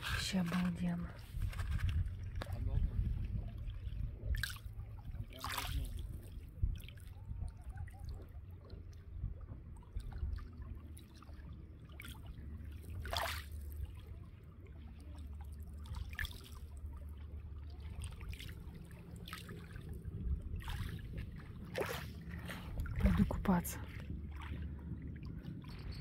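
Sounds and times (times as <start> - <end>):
low steady rumble: 0.0 - 5.4, 6.0 - 26.0
small waves lapping on pebbles: 0.0 - 7.1, 10.3 - 14.2, 15.1 - 26.0
water splashes: 0.0 - 26.0.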